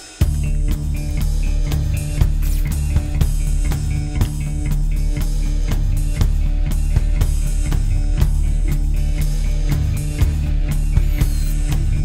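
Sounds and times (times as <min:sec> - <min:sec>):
drum beat: 0:00.0 - 0:12.0
bass line: 0:00.2 - 0:12.0.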